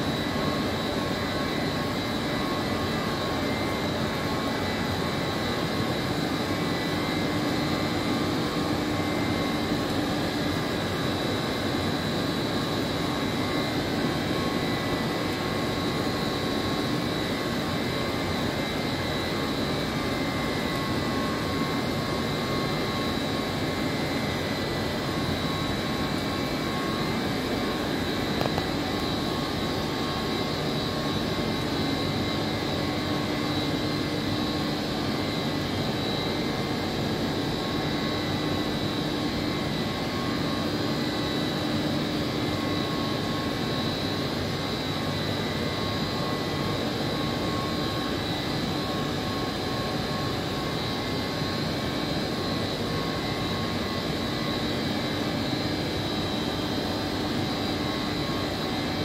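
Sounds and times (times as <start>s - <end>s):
chiller machine drone: 0.0s - 59.0s.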